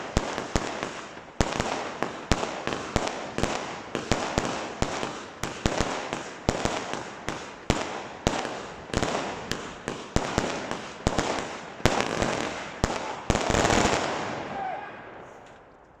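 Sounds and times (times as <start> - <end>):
fireworks bangs: 0.0 - 15.6
fireworks crackling: 0.0 - 15.7.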